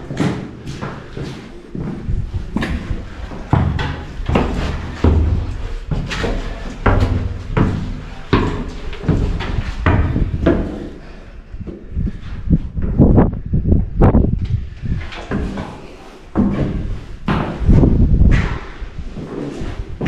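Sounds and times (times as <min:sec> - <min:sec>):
footsteps on stone stairs: 0:00.0 - 0:13.1, 0:14.5 - 0:20.0.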